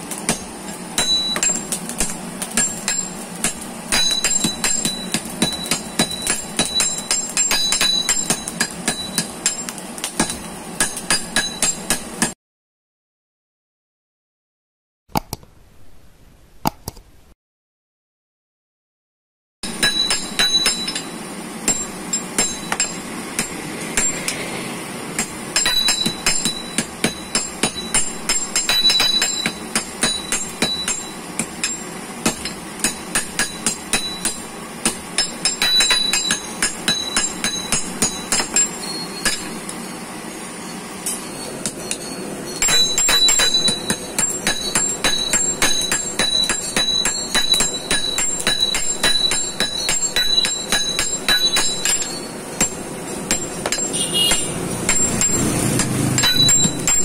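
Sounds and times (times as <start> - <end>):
hammer striking iron on anvil: 0.0 - 12.4, 19.6 - 39.9, 41.0 - 57.0
metallic ring: 0.3 - 2.0, 2.6 - 12.1, 19.6 - 24.4, 25.2 - 34.5, 35.1 - 57.0.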